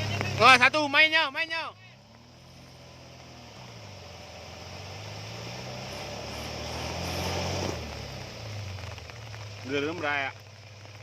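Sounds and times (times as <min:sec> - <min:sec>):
car engine pulling under load: 0:00.0 - 0:11.0.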